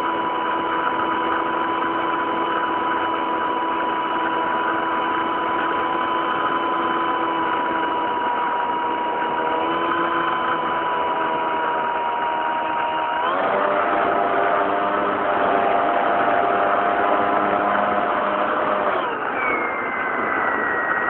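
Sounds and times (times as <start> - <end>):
model plane motor drone: 0.0 - 21.0.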